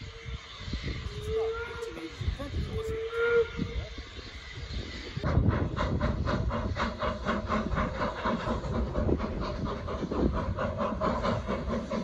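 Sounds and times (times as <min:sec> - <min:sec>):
steam locomotive exhaust chuffs: 0:00.0 - 0:12.0.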